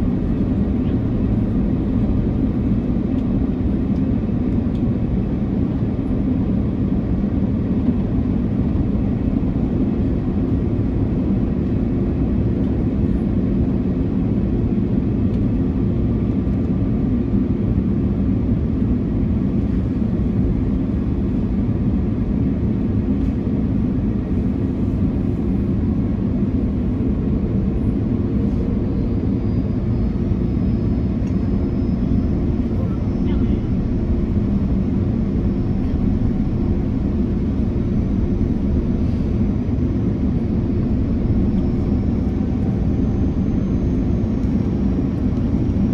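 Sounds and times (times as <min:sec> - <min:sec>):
airliner cabin roar: 0:00.0 - 0:45.9.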